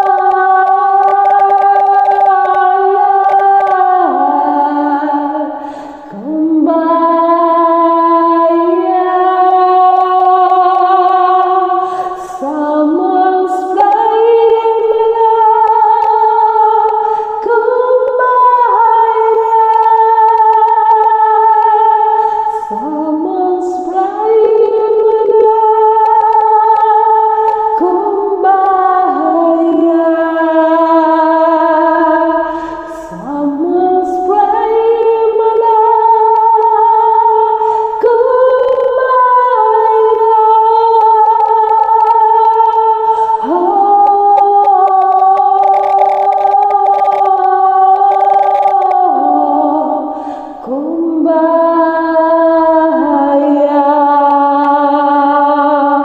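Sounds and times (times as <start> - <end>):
woman singing unaccompanied: 0.0 - 56.0.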